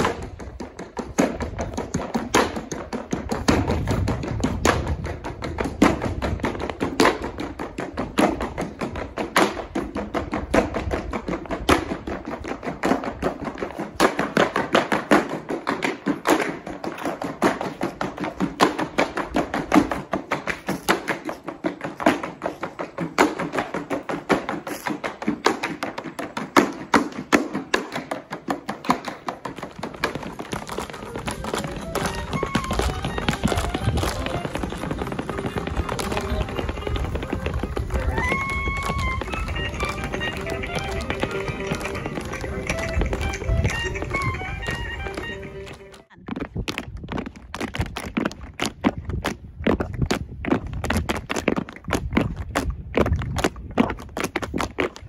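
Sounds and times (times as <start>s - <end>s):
tap shoes on wooden boards: 0.0s - 55.0s.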